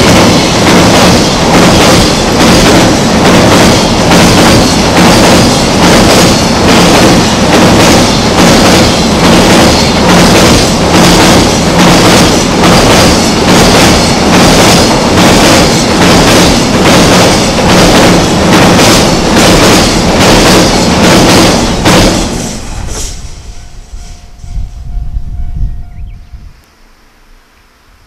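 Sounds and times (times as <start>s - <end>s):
train wheel clatter: 0.0s - 23.4s
freight train rumbling over bridge: 0.0s - 26.7s.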